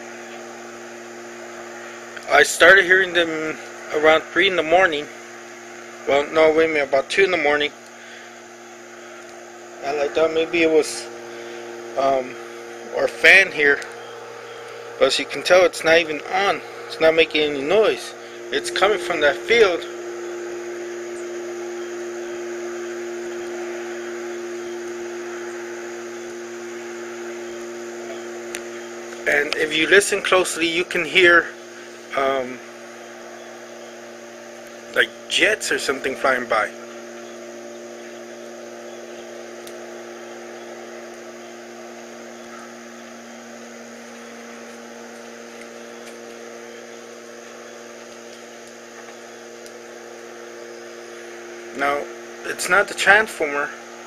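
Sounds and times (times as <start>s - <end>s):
even hiss: 0.0s - 54.0s
humming drone: 0.0s - 54.0s.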